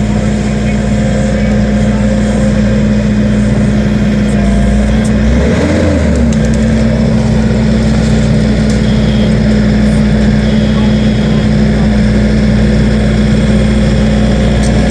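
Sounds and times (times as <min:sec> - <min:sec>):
skid steer engine running: 0:00.0 - 0:14.9.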